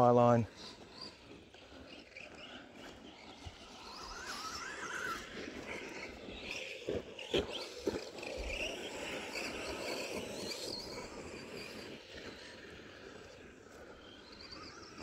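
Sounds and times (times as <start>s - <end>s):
electric motor whining: 0.6s - 15.0s.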